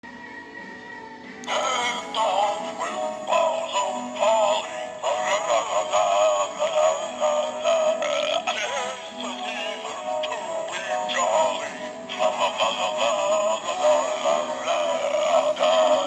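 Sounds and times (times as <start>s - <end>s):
person singing over backing tune: 0.2s - 16.0s.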